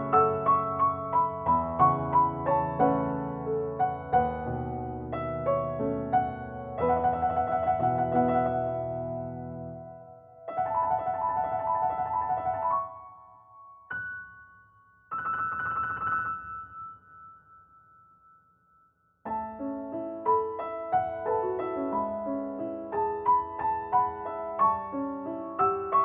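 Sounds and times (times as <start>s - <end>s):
piano music: 0.0s - 18.2s, 19.2s - 26.0s.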